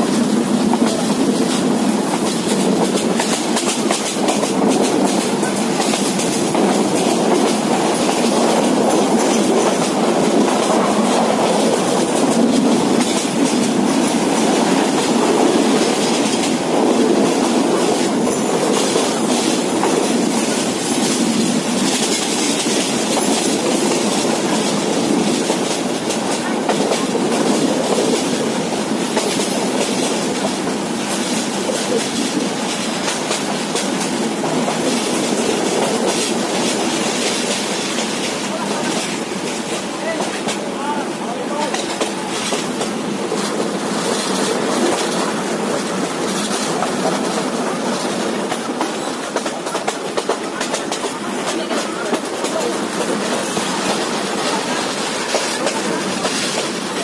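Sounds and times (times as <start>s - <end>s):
rapid clicking of rails: 0.0s - 57.0s
train wheels rumbling on rails: 0.0s - 57.0s.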